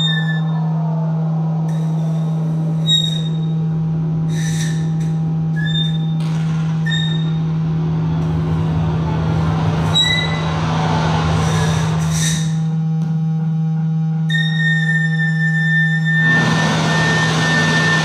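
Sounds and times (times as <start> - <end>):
steady low drone: 0.0 - 18.0.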